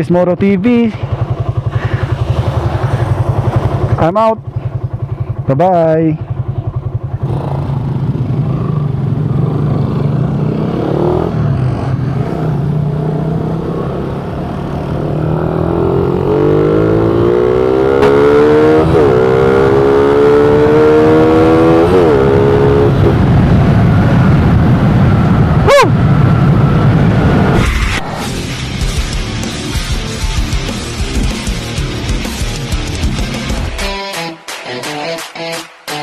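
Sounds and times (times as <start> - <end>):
motorcycle engine accelerating: 0.0 - 33.8.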